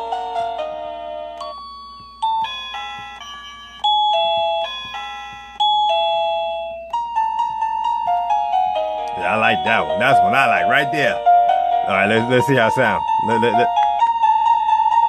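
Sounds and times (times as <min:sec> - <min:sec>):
electronic doorbell chime tune: 0:00.2 - 0:15.0.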